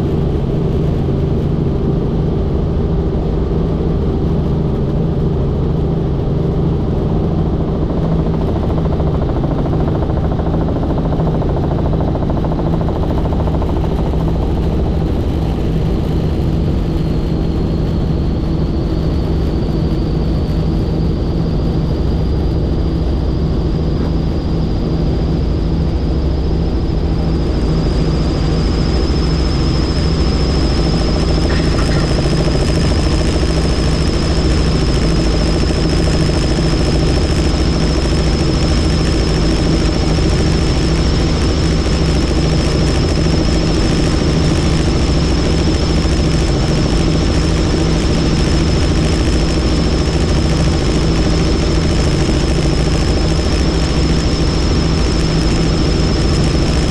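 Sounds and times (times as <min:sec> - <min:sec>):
helicopter engine and rotor noise: 0:00.0 - 0:56.9
high turbine whine: 0:00.0 - 0:56.9.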